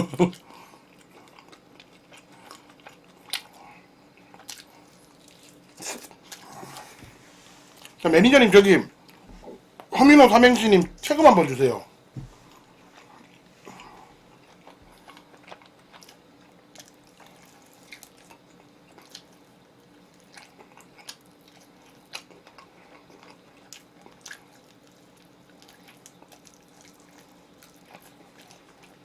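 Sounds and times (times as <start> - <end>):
low steady hum: 0.0 - 29.0
faint chewing: 0.1 - 8.0, 12.4 - 29.0.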